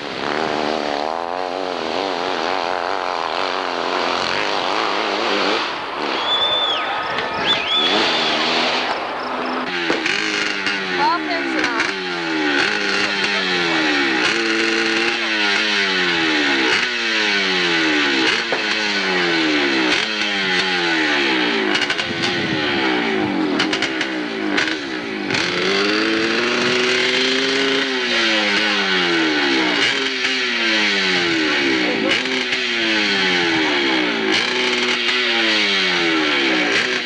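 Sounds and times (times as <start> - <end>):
motorcycle engine revving high: 0.0 - 37.0.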